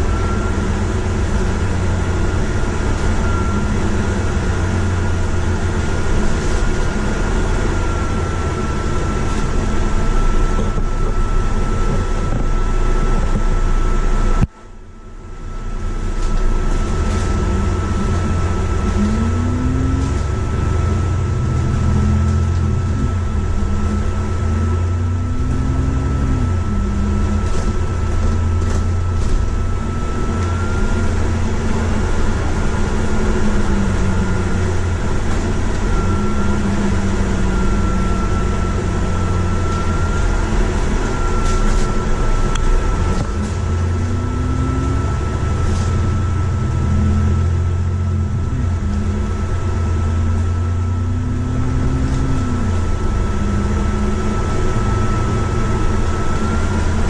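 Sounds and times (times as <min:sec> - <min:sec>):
bus engine and road noise: 0:00.0 - 0:57.0
thin high whine: 0:00.0 - 0:57.0.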